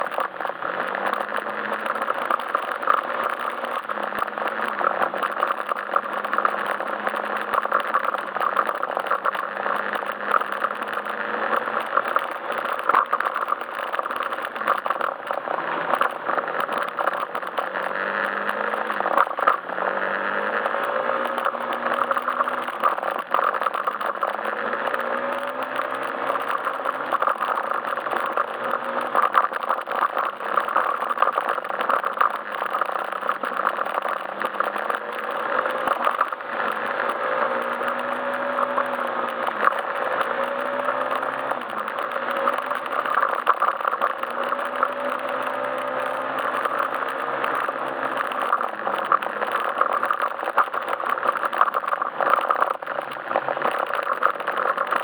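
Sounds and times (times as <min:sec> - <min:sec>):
road noise: 0:00.0 - 0:55.0
scooter engine running: 0:00.0 - 0:55.0
small rattles and clicks: 0:00.0 - 0:55.0.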